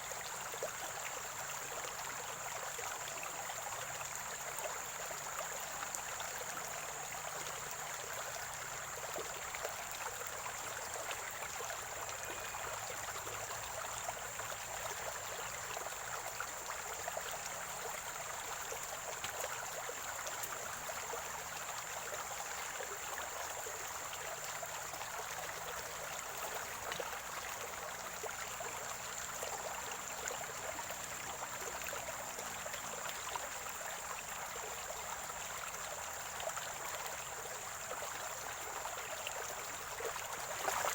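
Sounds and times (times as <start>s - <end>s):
stream gurgling over stones: 0.0s - 40.9s.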